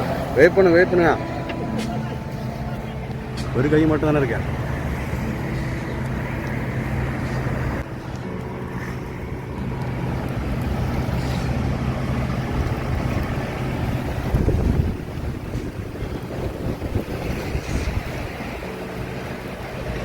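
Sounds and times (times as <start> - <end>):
low motor hum: 0.0 - 20.0
wind buffeting microphone: 0.0 - 20.0.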